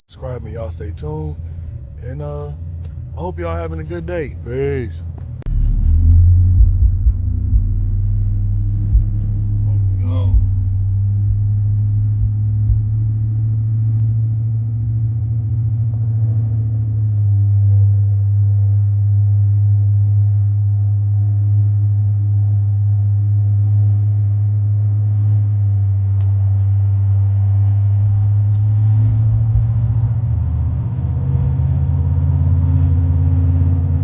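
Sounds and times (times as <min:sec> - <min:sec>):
truck cabin engine and road drone: 0:00.1 - 0:34.0.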